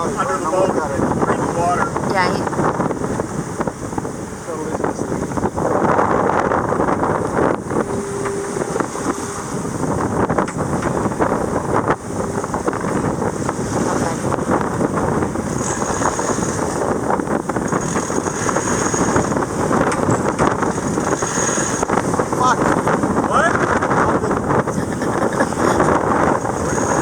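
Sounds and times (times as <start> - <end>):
rushing sea water: 0.0 - 27.0
wind buffeting microphone: 0.0 - 27.0.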